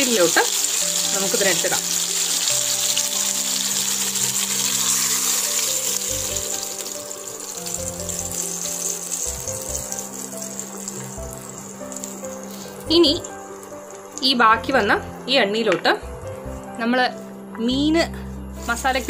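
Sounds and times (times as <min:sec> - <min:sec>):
fish sizzling in oil: 0:00.0 - 0:15.6, 0:18.5 - 0:19.0
soft background music: 0:00.0 - 0:19.0.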